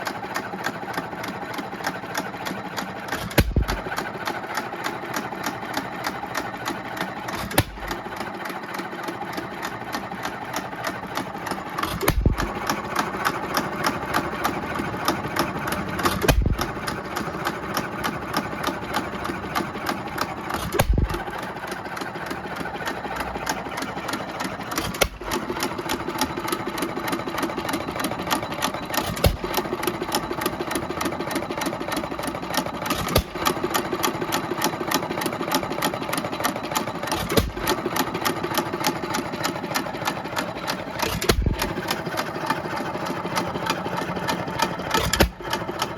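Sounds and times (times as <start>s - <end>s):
engine firing: 0.0s - 45.9s
rapid engine clatter: 0.0s - 45.9s.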